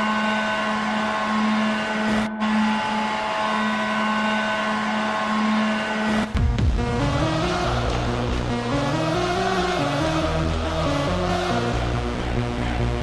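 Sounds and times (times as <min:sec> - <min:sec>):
goal horn blowing low note: 0:00.0 - 0:12.9.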